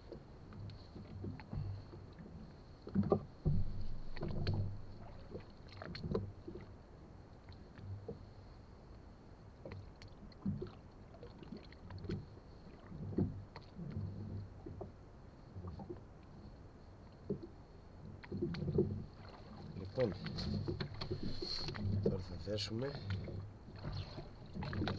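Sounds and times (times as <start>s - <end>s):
water lapping at boat hull: 0.0s - 24.9s.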